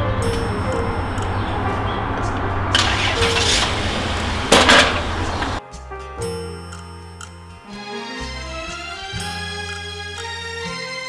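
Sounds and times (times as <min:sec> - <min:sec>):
sustained chords: 0:00.0 - 0:05.6, 0:06.2 - 0:11.0
low bass line: 0:00.0 - 0:10.8.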